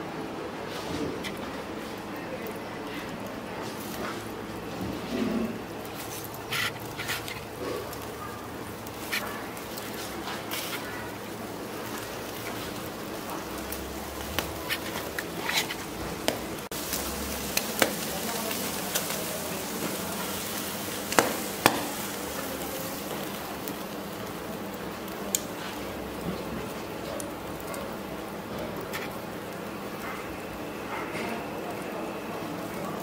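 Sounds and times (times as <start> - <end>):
kebabs sizzling over charcoal: 0.0 - 33.0
charcoal popping and crackling: 5.4 - 33.0.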